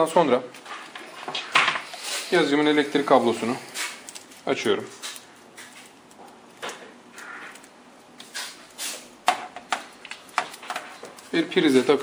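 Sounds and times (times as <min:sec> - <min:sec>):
cable rustling: 0:00.6 - 0:12.0.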